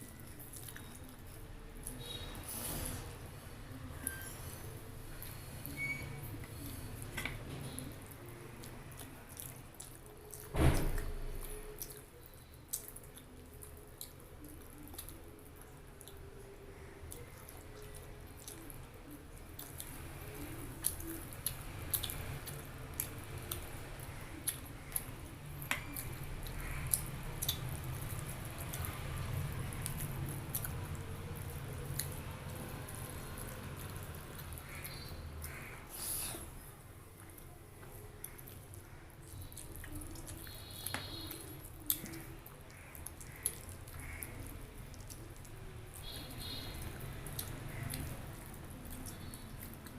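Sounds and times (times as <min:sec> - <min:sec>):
wet chewing with mouth clicks: 0:00.0 - 0:02.5, 0:03.9 - 0:49.9.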